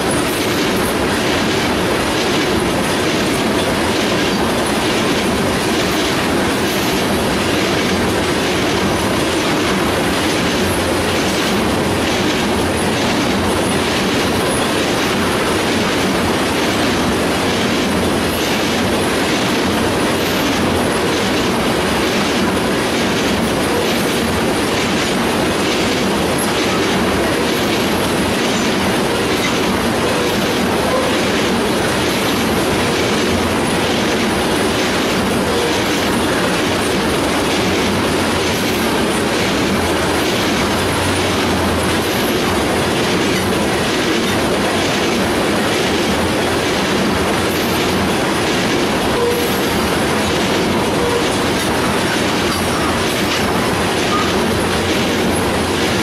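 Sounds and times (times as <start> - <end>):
steel wheels rumbling on rails: 0.0 - 56.0
wheels clattering over rail joints: 0.0 - 56.0.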